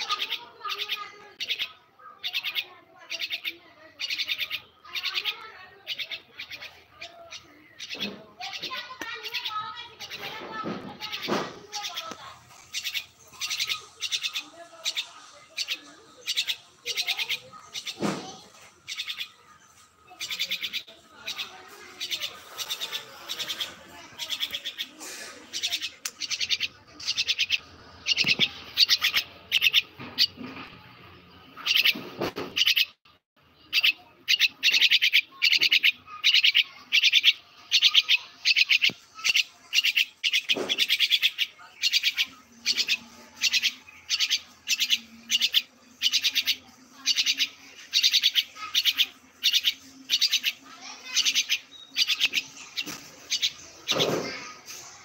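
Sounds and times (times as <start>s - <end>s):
bird chirping in rapid bursts: 0.0s - 30.4s, 31.5s - 55.0s.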